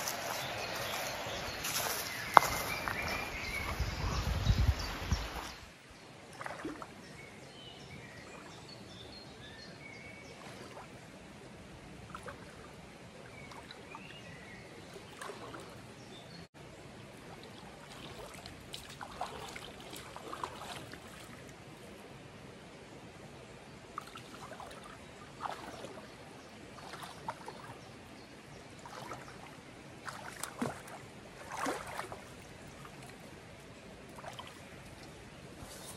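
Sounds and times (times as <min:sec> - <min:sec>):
river water flowing: 0:00.0 - 0:35.9.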